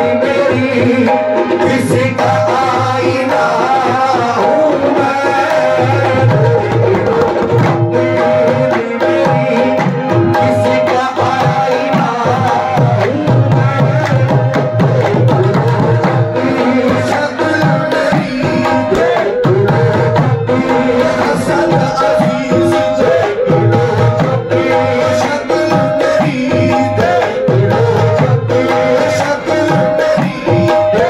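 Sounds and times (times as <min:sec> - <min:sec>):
hand drums driving rhythm: 0:00.0 - 0:31.0.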